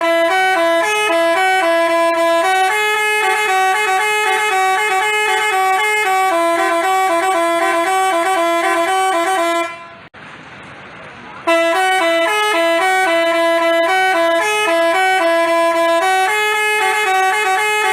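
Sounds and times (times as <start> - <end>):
multi-tone bus horn tune: 0.0 - 10.1, 11.4 - 17.9.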